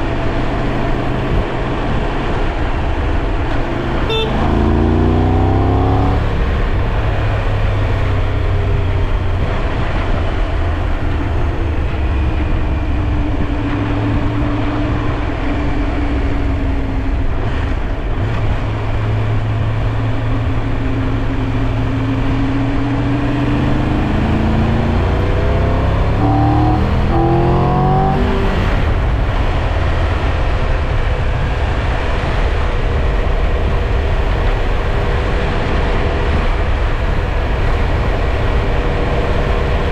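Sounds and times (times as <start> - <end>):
motorcycle engine under way: 0.0 - 39.9
wind rushing over microphone: 0.0 - 39.9.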